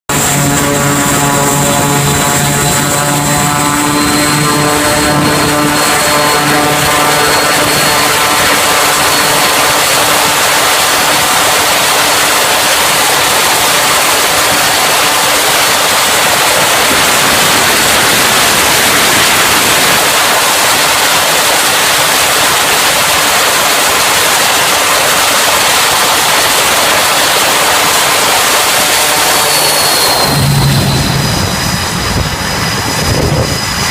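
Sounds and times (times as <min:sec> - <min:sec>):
loud rushing noise: 0:00.1 - 0:33.9
propeller hum: 0:00.1 - 0:33.9.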